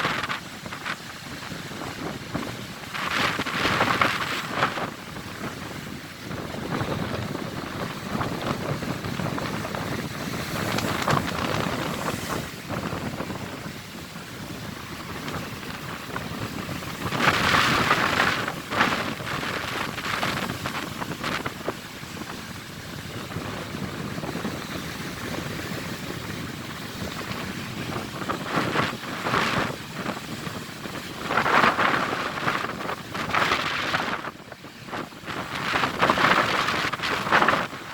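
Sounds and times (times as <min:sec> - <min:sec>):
big waves crashing: 0:00.0 - 0:37.9
waves breaking: 0:00.0 - 0:37.9
wind on microphone: 0:00.0 - 0:37.9.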